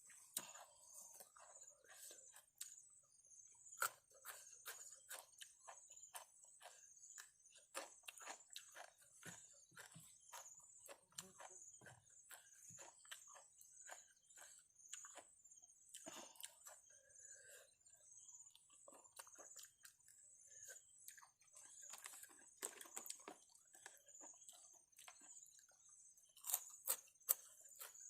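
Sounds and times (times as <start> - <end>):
chewing crunchy vegetables: 0.0 - 28.0
insects chirring: 0.2 - 28.0.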